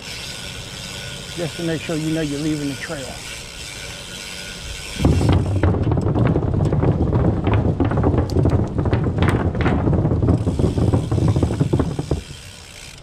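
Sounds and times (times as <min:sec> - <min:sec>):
bicycle tyres rumbling over planks: 0:00.0 - 0:13.0.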